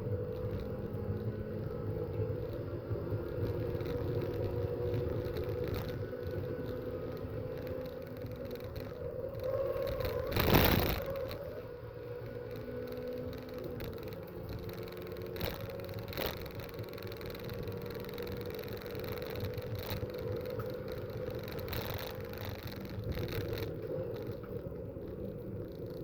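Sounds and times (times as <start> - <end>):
racing car engines running: 0.0 - 26.0.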